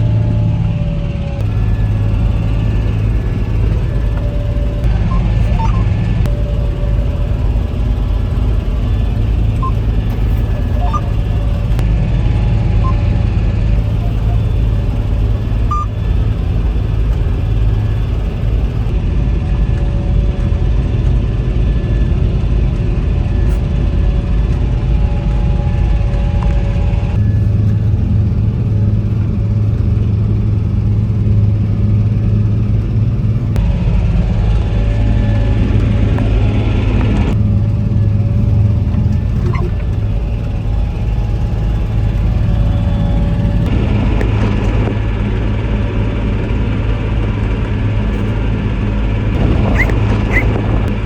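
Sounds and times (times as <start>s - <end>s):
tractor engine rumbling: 0.0s - 51.0s.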